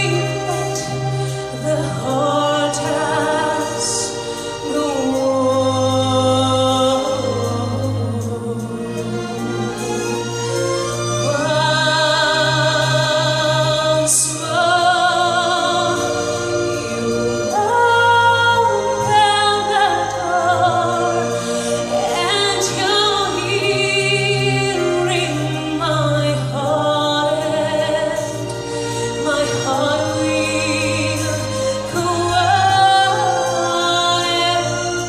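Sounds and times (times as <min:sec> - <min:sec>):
person singing with vibrato: 0:00.0 - 0:35.0.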